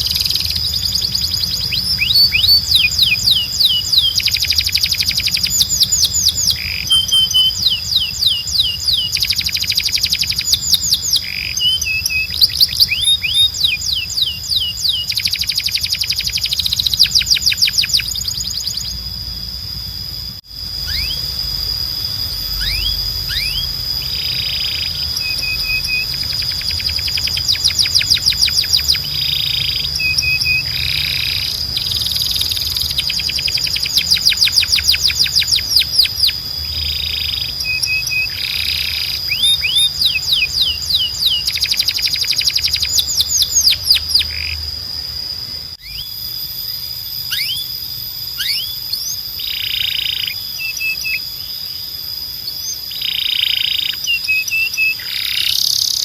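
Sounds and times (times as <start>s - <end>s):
canary singing trills: 0.0s - 56.0s
steady high-pitched tone: 0.0s - 56.0s.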